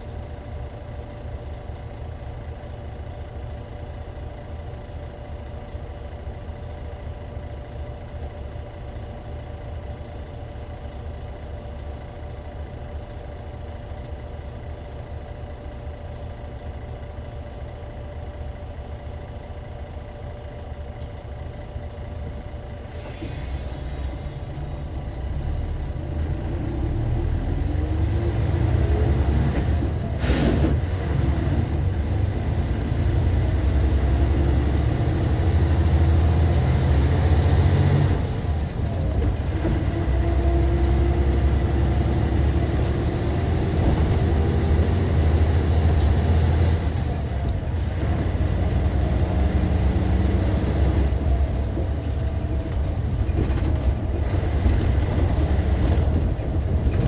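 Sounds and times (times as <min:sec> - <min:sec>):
diesel bus engine droning: 0:00.0 - 0:57.0.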